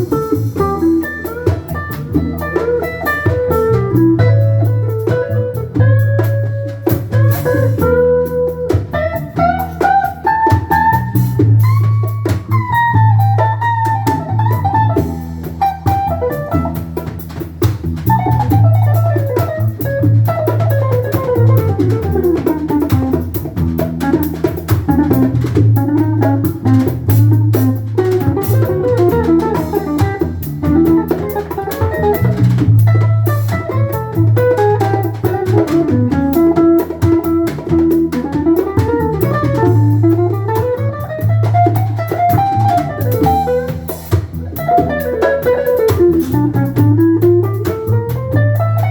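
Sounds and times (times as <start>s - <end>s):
drum kit: 0.0s - 48.9s
lead guitar melody: 0.0s - 48.9s
steady bass: 0.0s - 48.9s.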